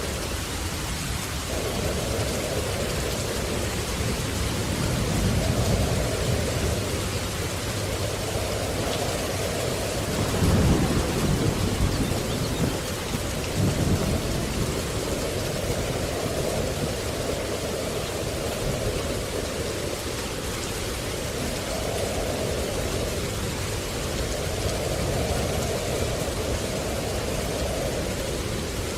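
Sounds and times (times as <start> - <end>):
low rumble of thunder: 0.0 - 28.9
steady rain: 0.0 - 28.9.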